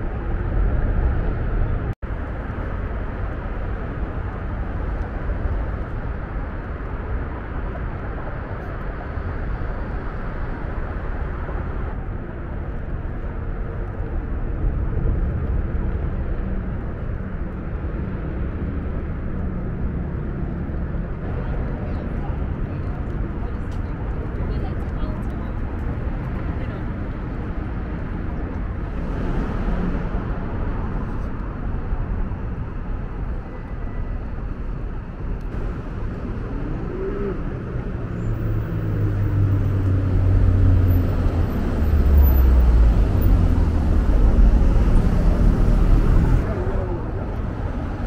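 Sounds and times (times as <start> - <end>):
distant traffic rumble: 0.0 - 48.0.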